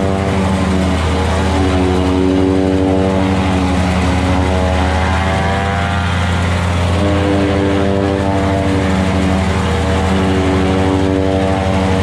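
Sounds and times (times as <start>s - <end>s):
harvesting machine engine hum: 0.0s - 12.0s.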